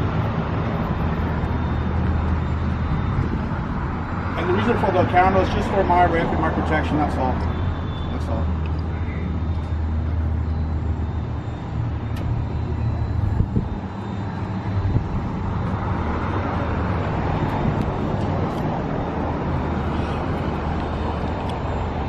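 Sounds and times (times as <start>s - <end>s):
traffic engine rumble: 0.0s - 22.0s.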